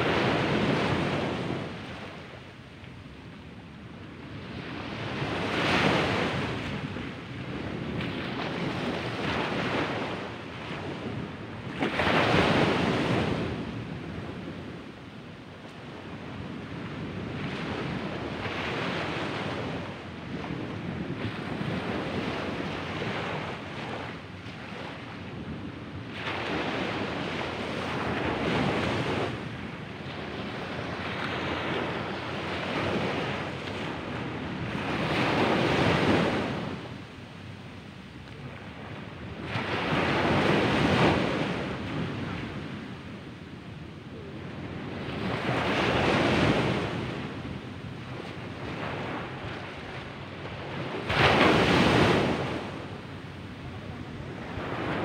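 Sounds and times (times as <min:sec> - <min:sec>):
ocean waves breaking on beach: 0:00.0 - 0:02.7, 0:03.9 - 0:55.0.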